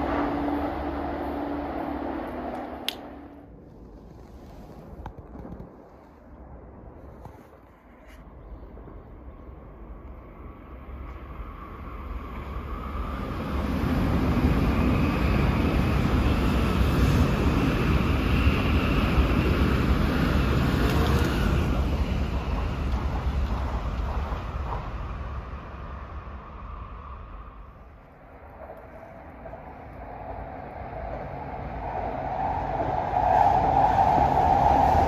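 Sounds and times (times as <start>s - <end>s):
high-speed train passing: 0.0s - 3.9s, 8.3s - 35.0s.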